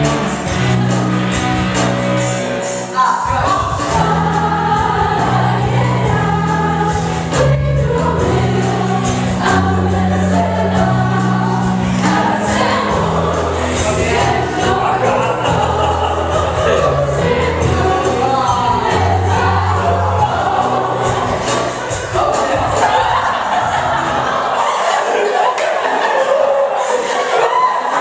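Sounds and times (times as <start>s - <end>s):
band accompaniment: 0.0s - 24.6s
choir singing: 0.0s - 28.0s.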